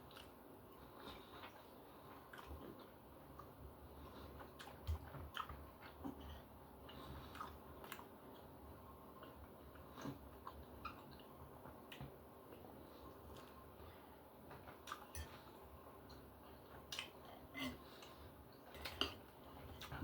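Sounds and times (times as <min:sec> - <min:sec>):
chewing steak: 0:00.0 - 0:13.7, 0:14.6 - 0:20.0.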